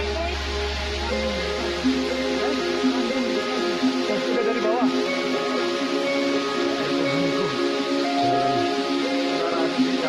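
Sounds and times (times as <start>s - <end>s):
background music with sustained chords: 0.0s - 10.0s.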